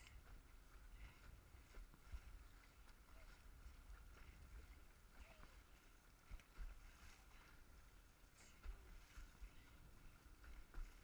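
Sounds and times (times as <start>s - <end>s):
low rumble of water: 0.0s - 11.0s.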